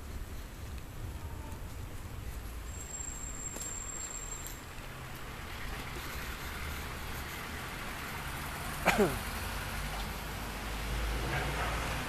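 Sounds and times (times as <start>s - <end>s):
low traffic rumble: 0.0s - 12.0s
passing car tyre hiss: 0.1s - 12.0s.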